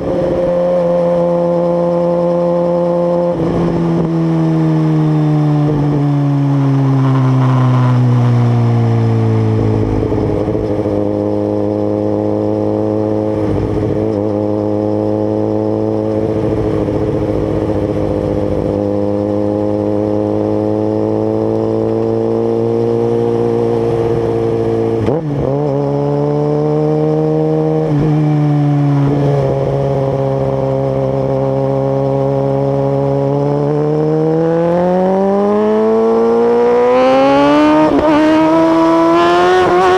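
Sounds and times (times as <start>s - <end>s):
motorcycle engine running loudly: 0.0s - 39.9s.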